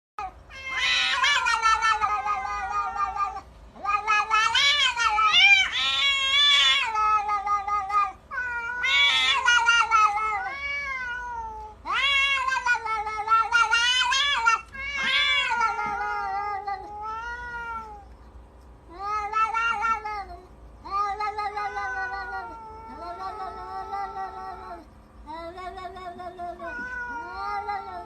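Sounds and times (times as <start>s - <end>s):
cats yowling in a fight: 0.2s - 18.2s, 18.9s - 28.0s.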